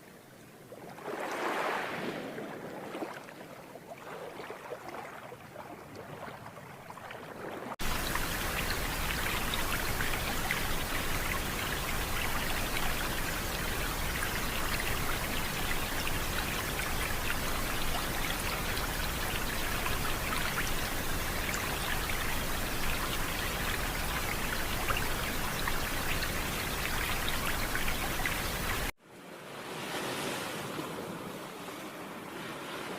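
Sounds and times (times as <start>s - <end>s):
quieter water sound: 0.0s - 32.9s.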